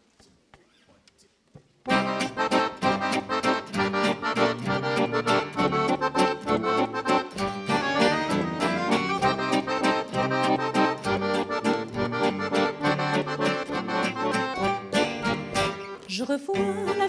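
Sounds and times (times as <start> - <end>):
accordion waltz with guitar and tuba: 1.9 - 17.0.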